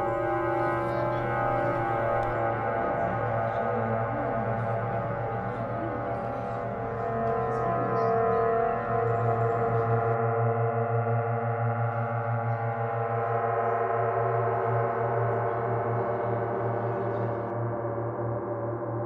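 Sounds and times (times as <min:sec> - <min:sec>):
gong-like ringing drone: 0:00.0 - 0:19.0
low pulsing hum: 0:00.0 - 0:19.0.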